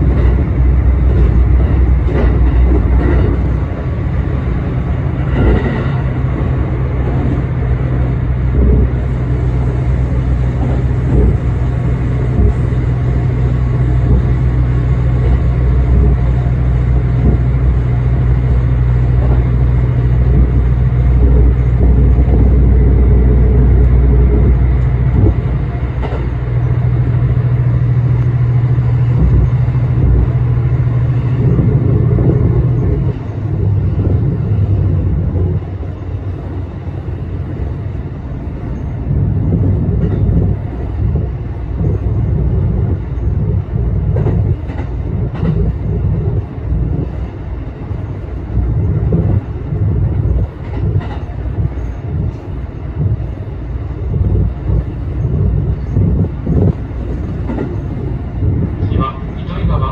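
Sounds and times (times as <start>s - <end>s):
diesel engine drone: 0.0s - 59.9s
wheel on rail rumble: 0.0s - 59.9s.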